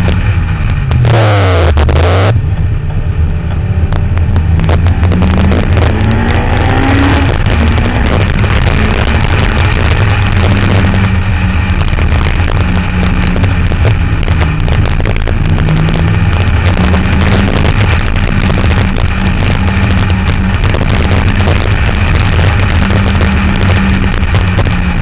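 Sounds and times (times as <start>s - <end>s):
car engine drone: 0.0s - 25.0s
wind and road noise: 0.0s - 25.0s.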